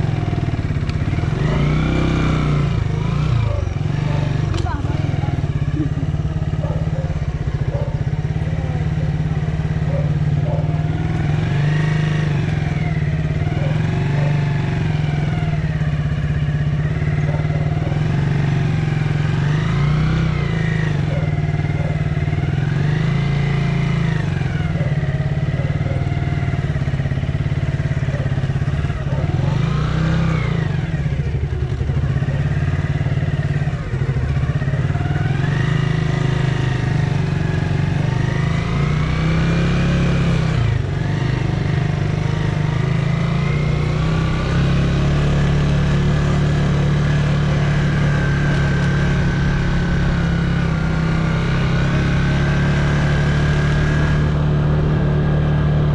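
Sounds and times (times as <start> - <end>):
small motorcycle engine revving: 0.0 - 55.9.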